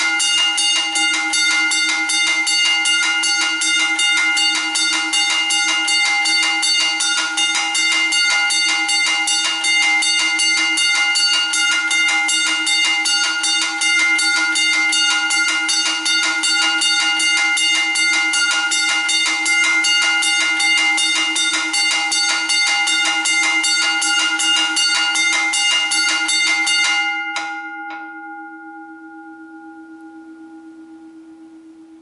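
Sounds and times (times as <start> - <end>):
level crossing bell ringing: 0.0 - 31.1
gong ringing on: 0.0 - 32.0.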